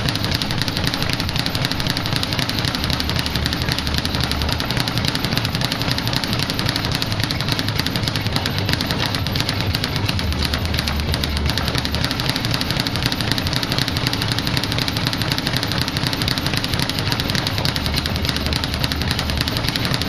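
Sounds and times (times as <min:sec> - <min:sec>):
speed bag rapid punching: 0:00.0 - 0:20.0.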